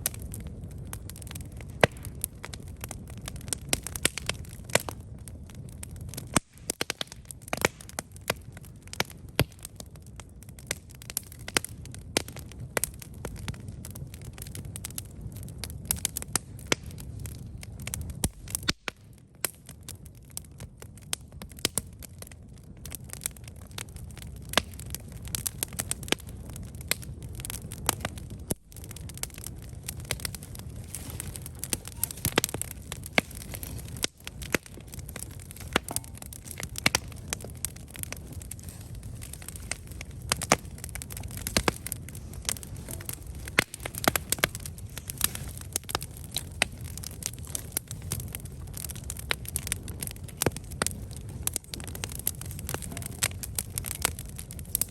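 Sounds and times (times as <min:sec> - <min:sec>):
campfire crackling and popping: 0:00.0 - 0:54.9
low rumble of flame: 0:00.0 - 0:54.9.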